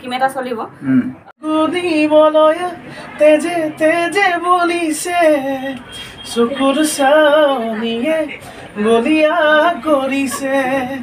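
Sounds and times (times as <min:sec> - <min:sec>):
man singing unaccompanied: 0:01.4 - 0:11.0.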